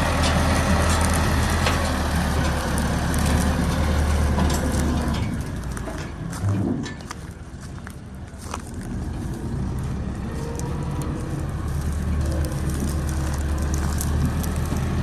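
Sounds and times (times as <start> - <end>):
tractor and thresher droning: 0.0 - 15.0.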